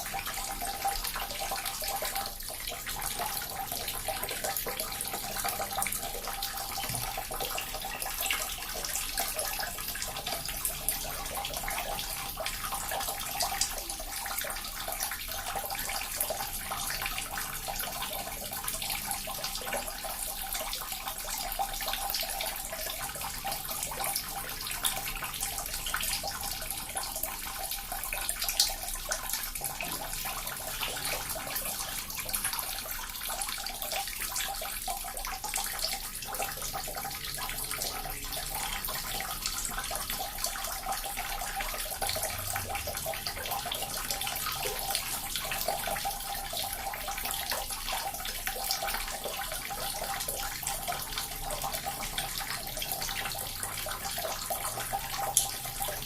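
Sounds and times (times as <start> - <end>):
water fountain trickling and splashing: 0.0 - 56.0.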